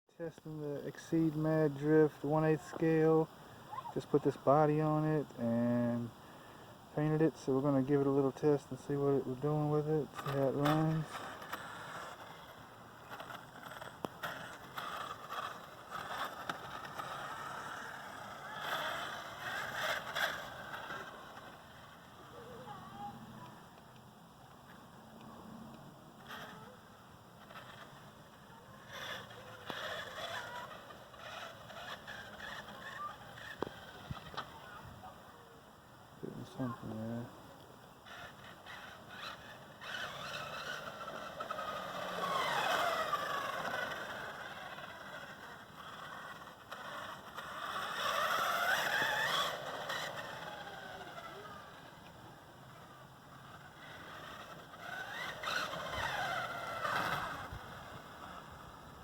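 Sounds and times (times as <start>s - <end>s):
rc car motor and wet tyres rushing: 0.3s - 59.0s.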